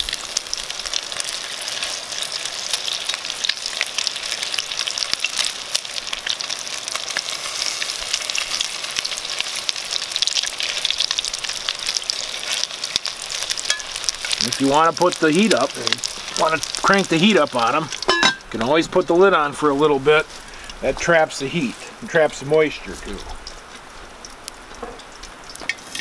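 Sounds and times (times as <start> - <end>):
patties sizzling in hot oil: 0.0 - 26.0.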